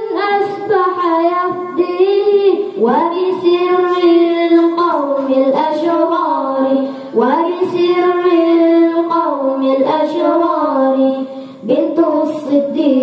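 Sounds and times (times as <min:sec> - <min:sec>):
boy singing into a microphone: 0:00.0 - 0:13.0.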